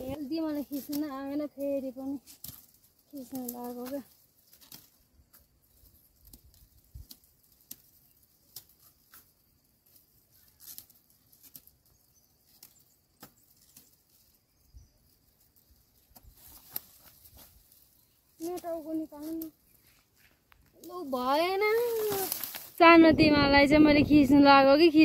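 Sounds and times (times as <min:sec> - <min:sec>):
dry stalks crackling: 0:00.0 - 0:25.0.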